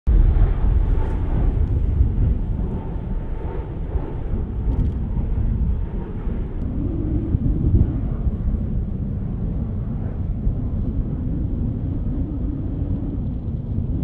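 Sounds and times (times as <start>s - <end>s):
faint steady whine: 0.1s - 14.0s
jet engines rumbling overhead: 0.1s - 14.0s.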